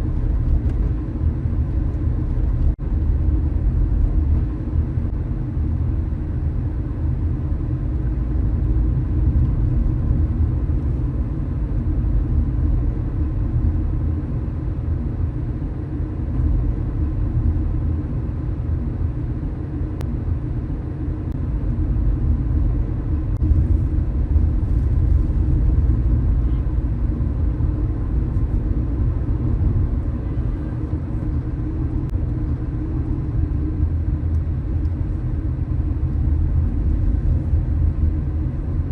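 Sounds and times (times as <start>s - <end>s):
car engine and tyre noise: 0.0s - 38.9s.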